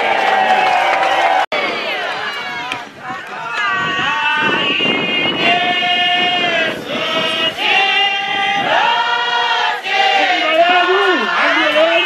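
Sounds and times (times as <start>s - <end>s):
voices singing a hymn: 1.6s - 12.0s.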